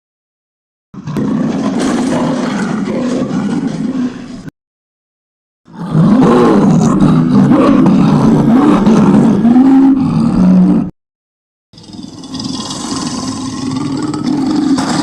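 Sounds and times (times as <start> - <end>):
big cat roaring: 1.0 - 4.5, 5.7 - 10.9, 11.8 - 15.0.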